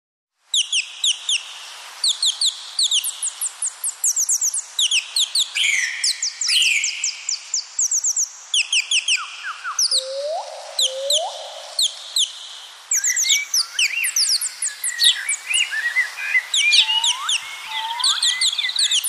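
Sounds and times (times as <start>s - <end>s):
birds chirping: 2.0s - 19.0s
loud bird calls: 2.0s - 19.0s.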